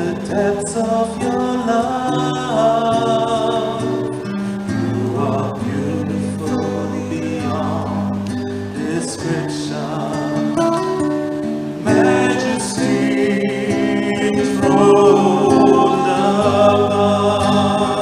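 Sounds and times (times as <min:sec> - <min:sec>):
choir singing slow song: 0:00.0 - 0:10.7, 0:11.8 - 0:18.0
guitar accompaniment: 0:00.0 - 0:18.0.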